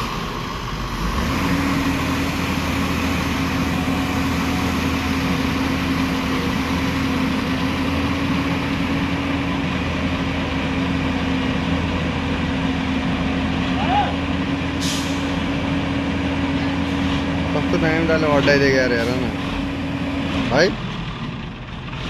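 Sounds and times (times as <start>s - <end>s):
excavator diesel engine droning: 0.0s - 22.0s.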